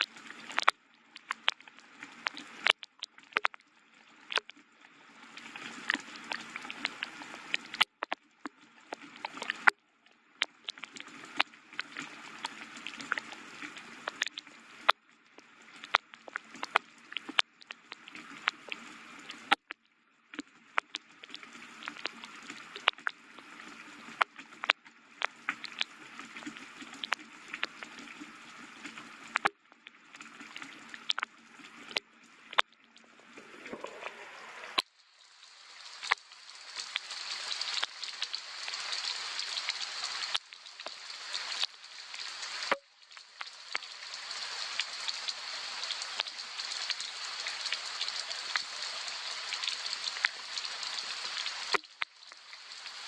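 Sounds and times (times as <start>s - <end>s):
raindrops ticking: 0.0s - 3.6s, 4.3s - 4.6s, 5.9s - 8.2s, 8.9s - 9.8s, 10.4s - 28.0s, 29.3s - 33.0s, 35.9s - 53.0s
soft rain hiss: 3.8s - 19.6s, 20.5s - 53.0s.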